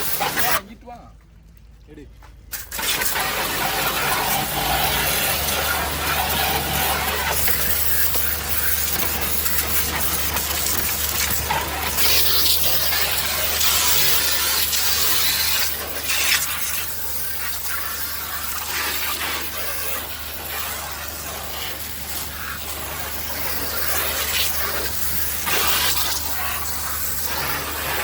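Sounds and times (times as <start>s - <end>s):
water spraying and splashing: 0.0s - 0.6s, 2.5s - 28.0s.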